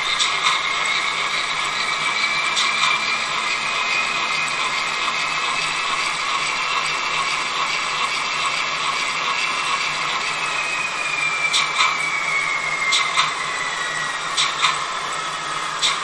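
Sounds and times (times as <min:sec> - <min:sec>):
electric locomotive running whine: 0:00.0 - 0:16.0
model gears and rollers whirring: 0:00.0 - 0:16.0.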